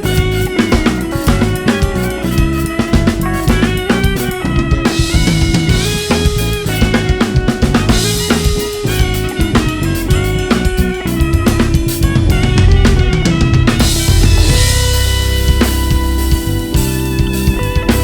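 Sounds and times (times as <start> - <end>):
drum kit hits: 0.0 - 18.0
live band playing: 0.0 - 18.0.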